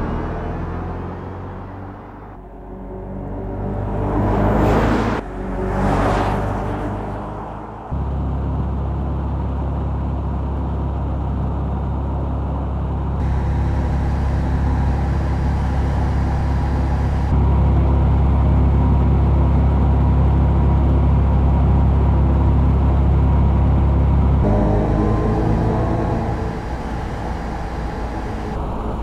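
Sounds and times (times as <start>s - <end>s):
electric car hum: 0.0s - 29.0s
road and tyre rumble: 0.0s - 29.0s.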